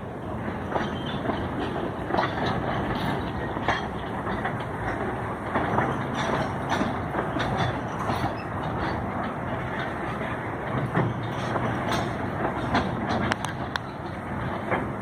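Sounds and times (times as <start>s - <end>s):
train wheels rumbling on rail: 0.0s - 15.0s
wagon clicks and clanks: 0.5s - 15.0s.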